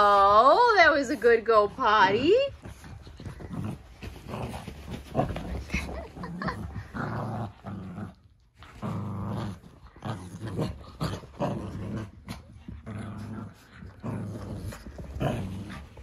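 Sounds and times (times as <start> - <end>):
puppies play-growling: 0.0 - 16.0.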